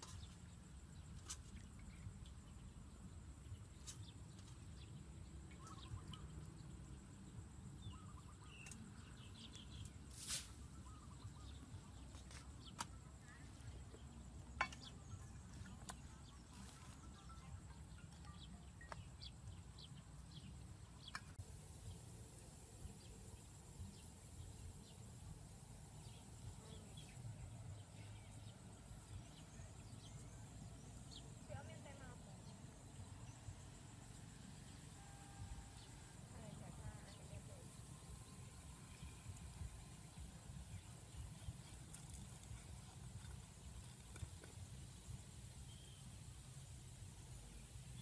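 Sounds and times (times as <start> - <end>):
faint high hiss: 0.0 - 48.0.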